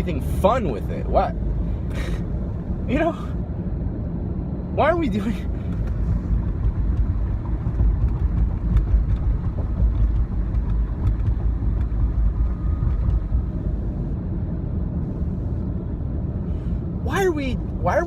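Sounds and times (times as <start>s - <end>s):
car cabin road and engine rumble: 0.0s - 18.0s.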